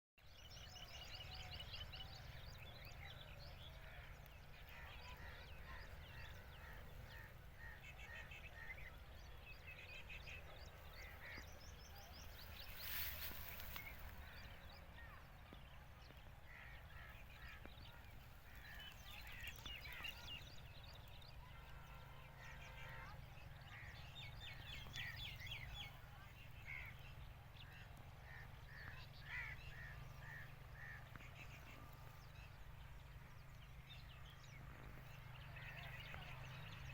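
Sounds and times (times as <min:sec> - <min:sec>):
birds chirping and calling: 0:00.6 - 0:15.2, 0:16.5 - 0:21.5, 0:22.4 - 0:32.4.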